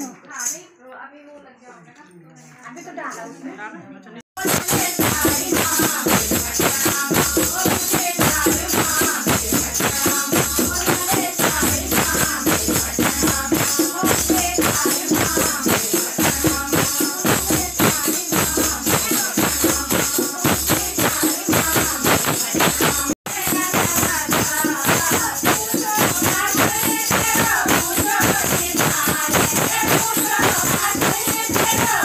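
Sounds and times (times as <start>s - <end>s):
jingling percussion: 0.0s - 0.9s, 4.3s - 32.0s
rhythmic hand-clapping: 4.4s - 32.0s
women singing a hymn: 4.4s - 32.0s.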